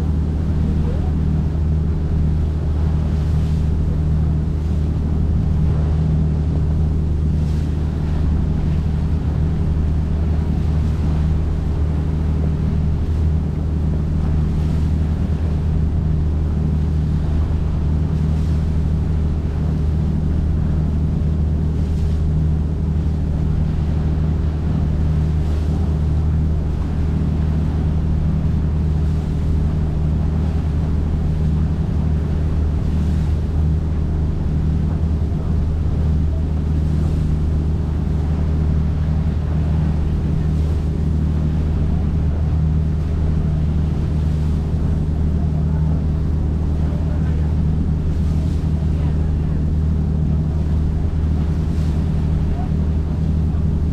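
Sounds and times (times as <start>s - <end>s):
boat engine droning: 0.0s - 53.9s
water noise: 0.0s - 53.9s.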